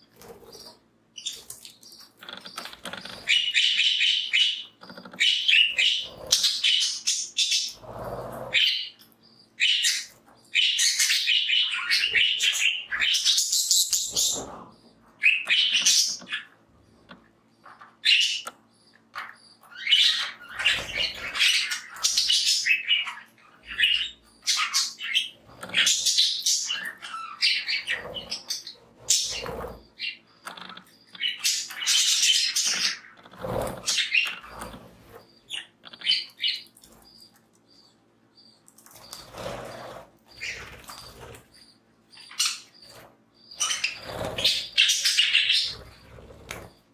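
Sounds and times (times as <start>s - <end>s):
budgies chattering and chirping: 0.0s - 46.9s.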